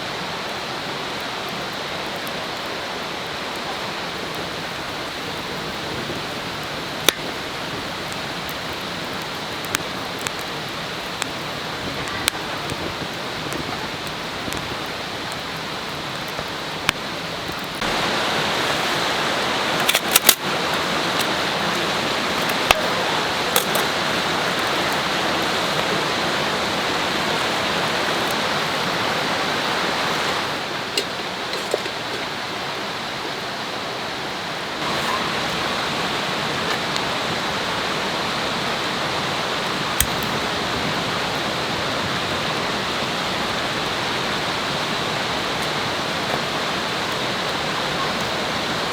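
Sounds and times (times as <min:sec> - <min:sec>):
river flowing: 0:00.0 - 0:48.9.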